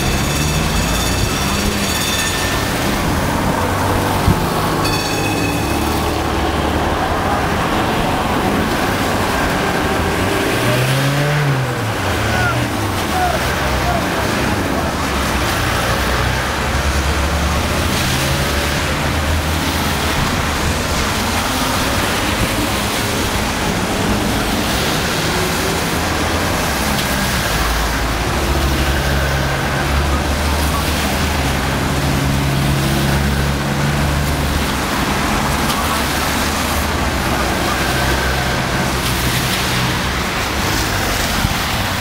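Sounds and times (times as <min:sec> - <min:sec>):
tyres hissing on wet road: 0:00.0 - 0:42.0.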